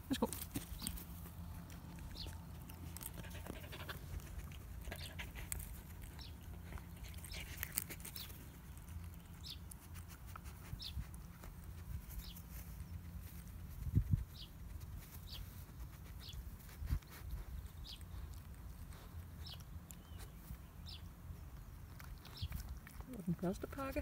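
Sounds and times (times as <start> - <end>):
rustling on grass: 0.0 - 21.0
dog sniffing: 0.4 - 20.6.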